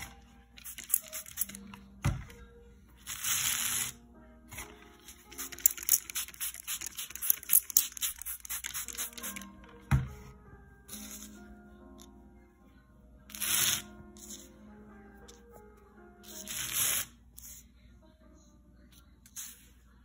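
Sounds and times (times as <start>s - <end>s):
faint music: 0.0s - 20.0s.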